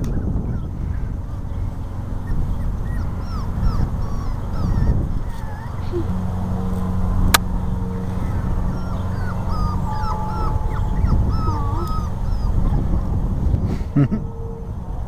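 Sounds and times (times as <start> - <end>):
puppies whimpering: 0.0 - 14.7
low rumble: 0.0 - 15.0.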